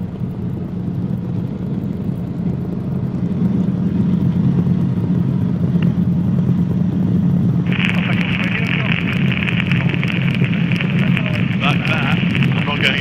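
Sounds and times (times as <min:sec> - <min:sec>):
helicopter engine and rotors droning: 0:00.0 - 0:13.0.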